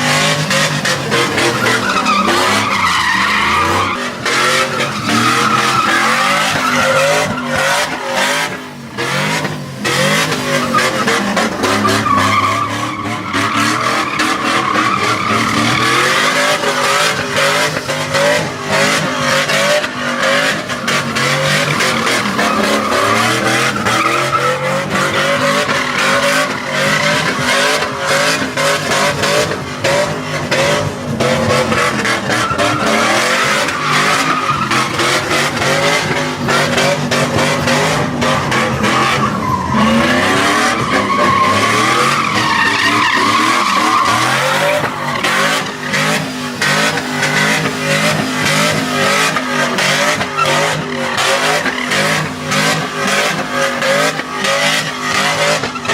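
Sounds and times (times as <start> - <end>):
truck engine revving: 0.0 - 55.9
tyres squealing: 0.0 - 55.9.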